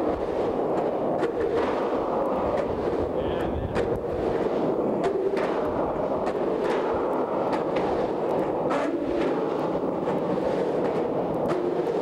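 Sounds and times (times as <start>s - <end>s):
skateboard clicks and knocks: 0.0s - 12.0s
skateboard wheels rolling on concrete: 0.0s - 12.0s.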